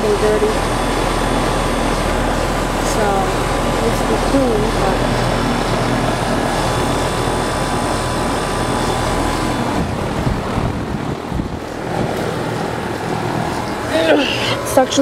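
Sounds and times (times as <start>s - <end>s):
air conditioner fan rushing: 0.0s - 15.0s
steady hum: 0.0s - 15.0s.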